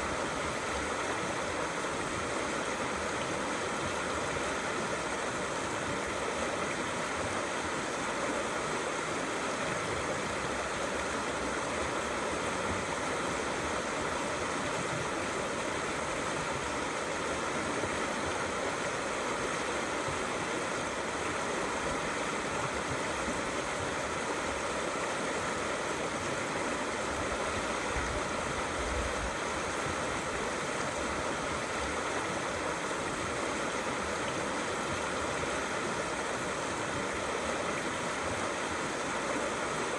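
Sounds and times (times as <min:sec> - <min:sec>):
river flowing and gurgling: 0:00.0 - 0:39.9.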